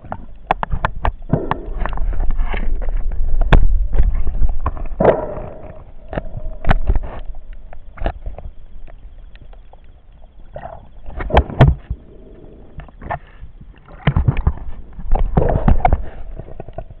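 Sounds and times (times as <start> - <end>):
underwater knocks and clicks: 0.0 - 12.1, 12.7 - 17.0
low underwater rushing rumble: 0.0 - 17.0.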